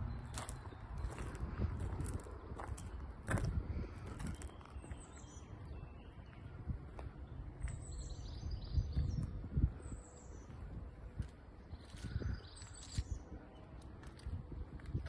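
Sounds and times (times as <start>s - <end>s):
small birds chirping: 0.0s - 14.3s
steady low rumble: 0.0s - 15.0s.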